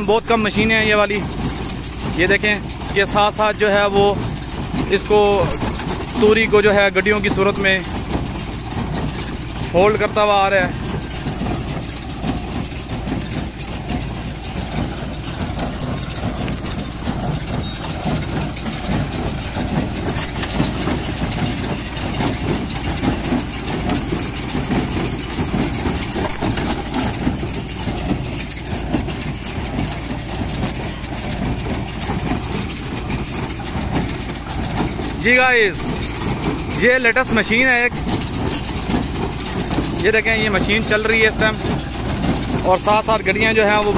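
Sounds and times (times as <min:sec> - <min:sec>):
baler mechanical clatter: 0:00.0 - 0:43.9
tractor engine drone: 0:00.0 - 0:43.9.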